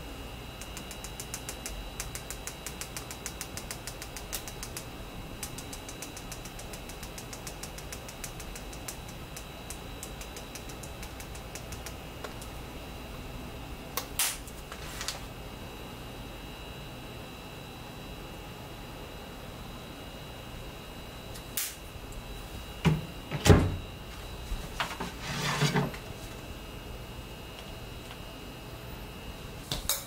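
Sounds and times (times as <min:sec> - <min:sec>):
faint high whine: 0:00.0 - 0:30.0.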